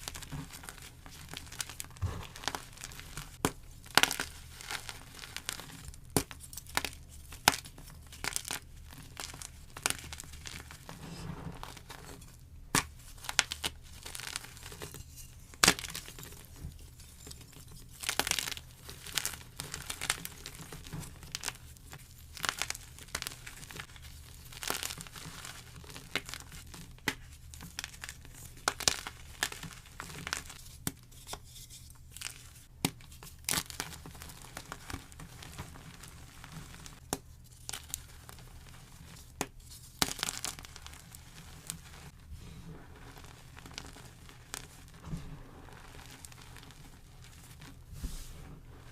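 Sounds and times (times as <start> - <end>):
chalk crunching and crumbling: 0.0 - 48.9.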